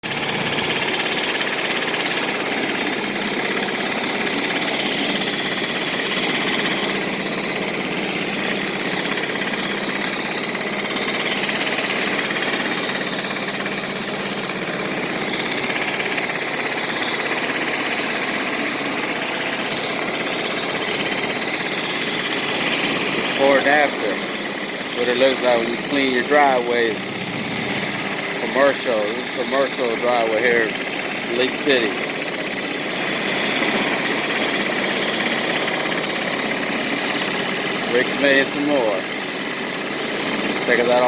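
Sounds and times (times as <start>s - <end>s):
pressure washer engine running: 0.0s - 41.0s.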